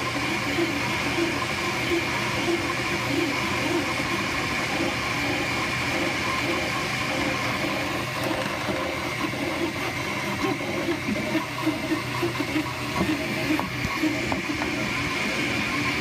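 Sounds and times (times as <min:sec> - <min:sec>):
printer fans and motors whirring: 0:00.0 - 0:16.0.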